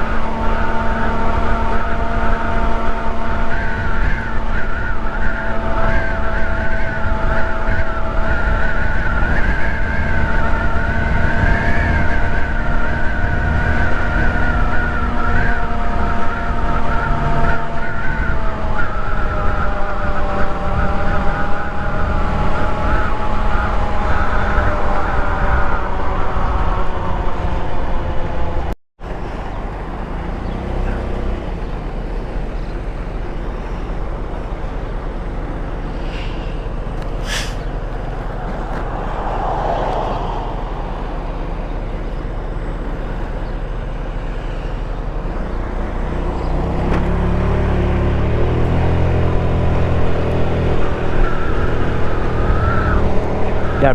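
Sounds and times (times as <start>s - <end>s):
road and wind noise: 0.0s - 53.9s
scooter engine whine: 0.0s - 53.9s.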